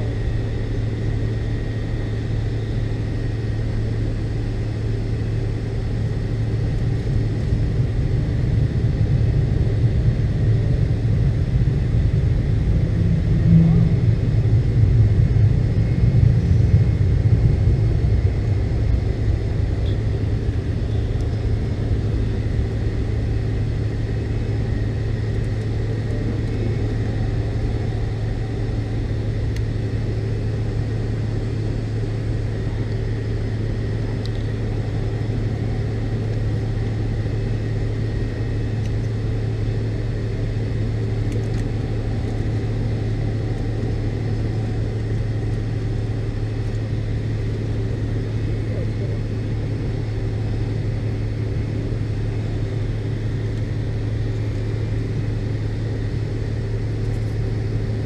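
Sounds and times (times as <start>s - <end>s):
faint steady whine: 0.0s - 58.0s
jet engine rumble in cabin: 0.0s - 58.0s.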